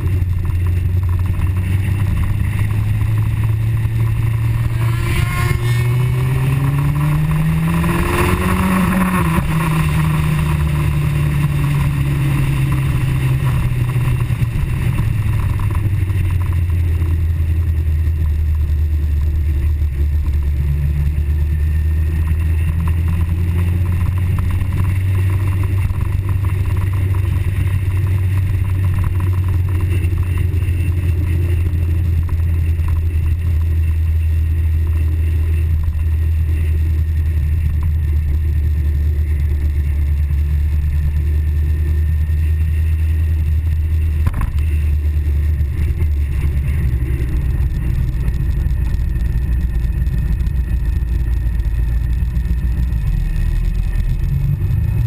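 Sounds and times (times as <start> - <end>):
motorcycle engine cruising: 0.0 - 55.0
rush of wind: 0.0 - 55.0.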